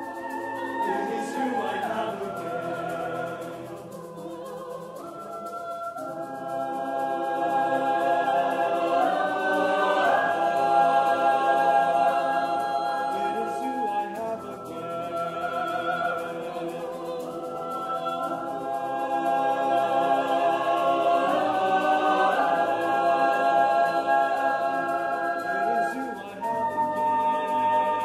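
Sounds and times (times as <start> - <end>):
choir singing a cappella: 0.0 - 28.0.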